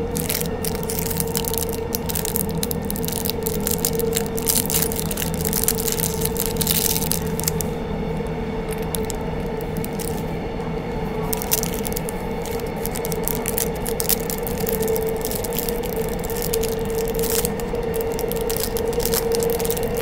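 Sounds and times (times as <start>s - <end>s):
small metal pieces handled: 0.0s - 10.2s, 11.3s - 20.0s
plastic bags crinkling: 0.0s - 10.3s, 11.1s - 20.0s
train rumble and hum: 0.0s - 20.0s.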